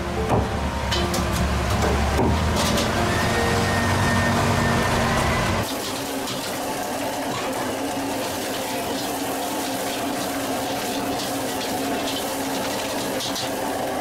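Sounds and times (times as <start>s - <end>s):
food sizzling in a wok: 2.4s - 14.0s.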